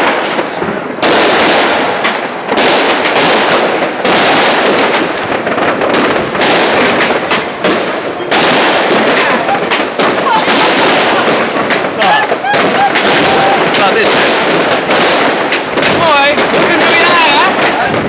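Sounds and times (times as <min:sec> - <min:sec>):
fireworks and firecrackers banging: 0:00.0 - 0:18.0.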